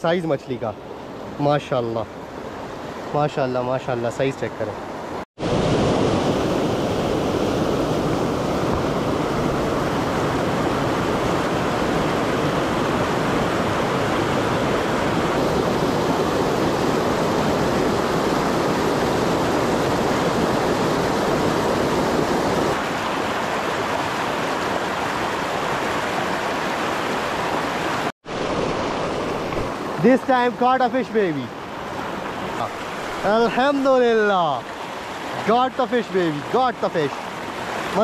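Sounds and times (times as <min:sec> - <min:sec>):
stream rushing over boulders: 0:00.0 - 0:38.0.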